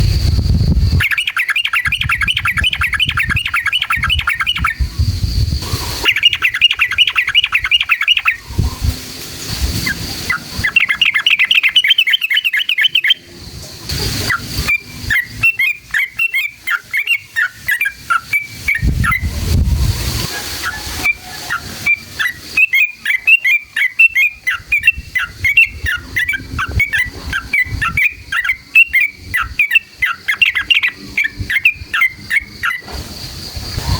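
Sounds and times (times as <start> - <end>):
bird chattering trills: 0.9 - 9.0, 9.7 - 19.3, 20.4 - 32.9
bubbly bird chirps: 1.0 - 8.9, 9.8 - 13.3, 14.0 - 19.4, 20.4 - 32.8.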